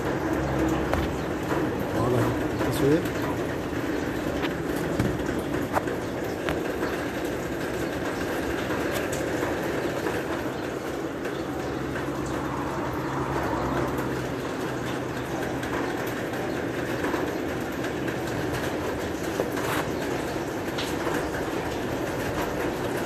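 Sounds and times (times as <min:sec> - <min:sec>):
water sprinklers rushing: 0:00.0 - 0:23.0.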